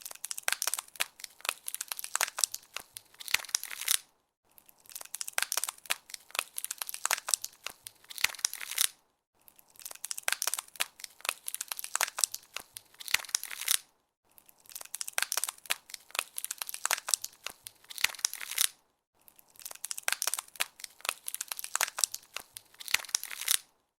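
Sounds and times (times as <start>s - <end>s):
ice crackling and snapping: 0.0s - 9.0s, 9.6s - 18.8s, 19.4s - 23.7s.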